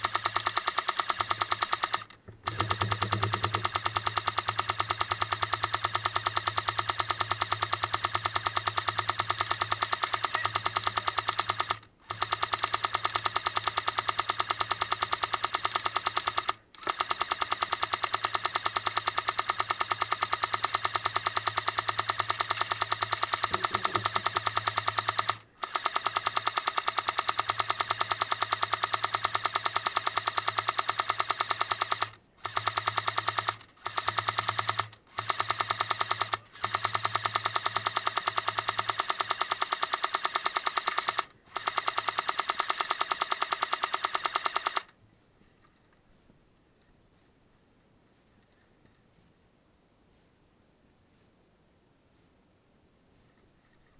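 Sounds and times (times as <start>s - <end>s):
airsoft gun firing bursts: 0.0s - 44.9s.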